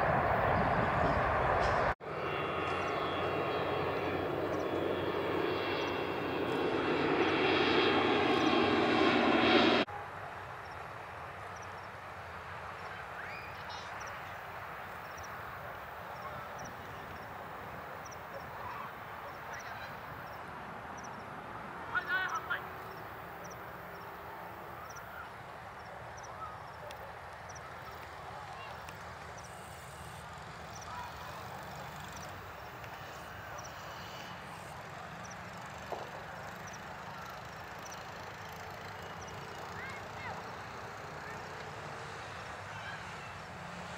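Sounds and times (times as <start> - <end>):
distant jet engines rushing: 0.0 - 43.9.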